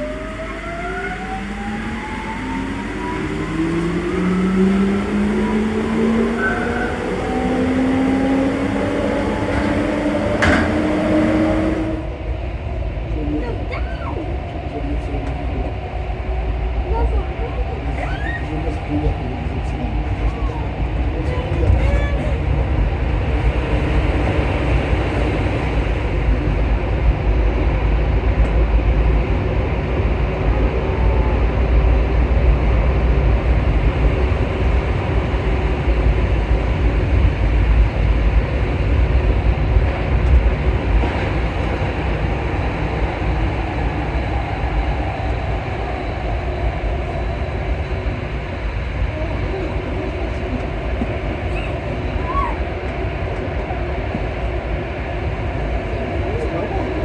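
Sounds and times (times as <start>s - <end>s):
metro train rumbling in tunnel: 0.0s - 57.0s.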